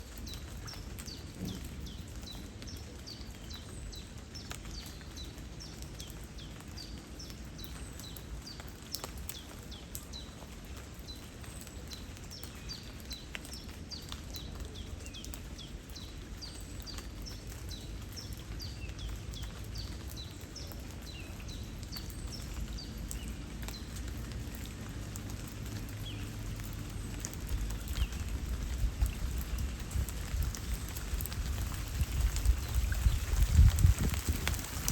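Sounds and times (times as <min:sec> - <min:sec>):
flowing water: 0:00.0 - 0:34.9
rain: 0:00.0 - 0:34.9
small birds chirping: 0:00.0 - 0:34.9.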